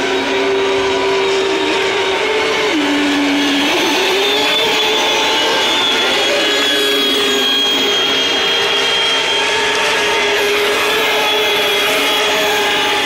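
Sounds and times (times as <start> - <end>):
model boat engines whining: 0.0 - 13.0.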